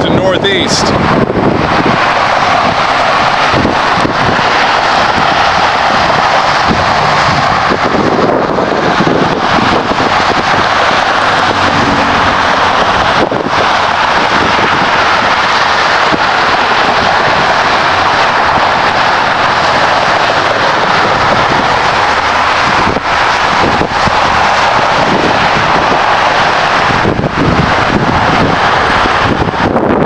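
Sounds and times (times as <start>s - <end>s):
highway traffic rushing: 0.0s - 30.0s.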